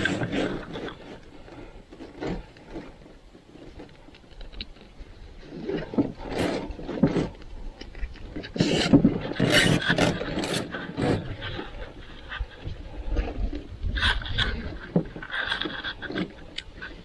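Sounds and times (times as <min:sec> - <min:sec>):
webbing and buckles scraping canoe hull: 0:00.0 - 0:17.0.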